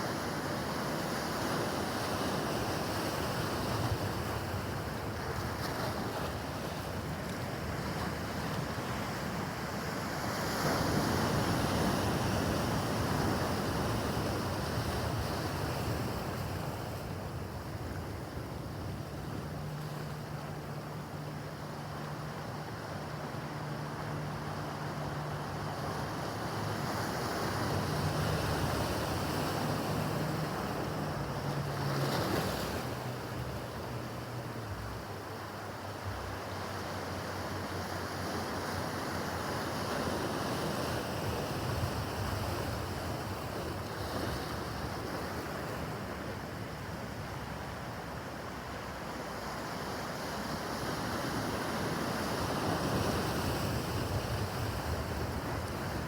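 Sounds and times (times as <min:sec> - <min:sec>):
distant boat engine hum: 0:00.0 - 0:56.0.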